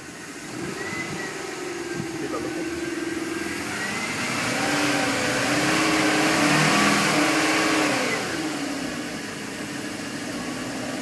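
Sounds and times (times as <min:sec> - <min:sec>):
boat engine revving: 0:00.0 - 0:11.0.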